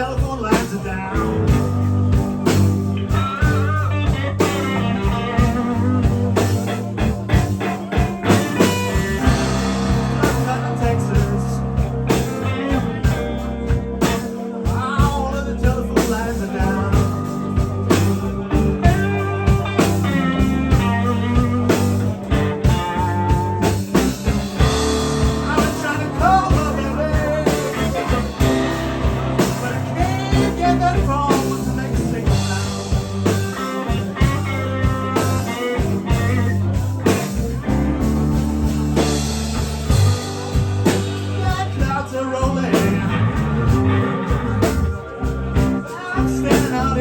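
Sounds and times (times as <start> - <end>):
bass guitar: 0.0 - 47.0
drums: 0.0 - 47.0
electric guitar with bent notes: 0.0 - 47.0.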